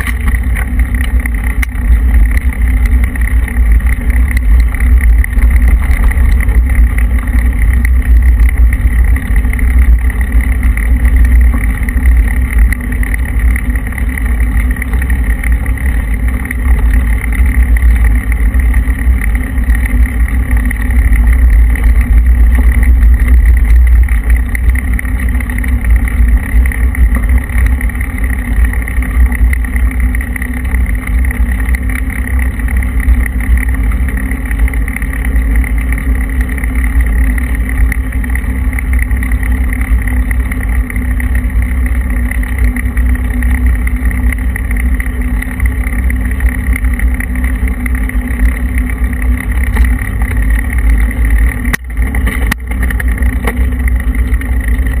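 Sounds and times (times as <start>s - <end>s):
bicycle tyres on rough road: 0.0s - 55.0s
wind rumble on microphone: 0.0s - 55.0s.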